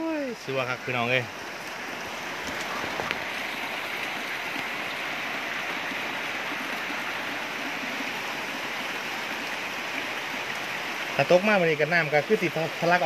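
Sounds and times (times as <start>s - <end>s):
rain on a metal roof: 0.0s - 13.0s
water dripping off roof edge: 0.0s - 13.0s.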